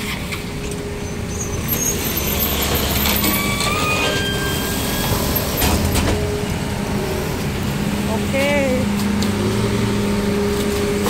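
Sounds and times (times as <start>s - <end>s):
scooter traffic: 0.0s - 11.0s.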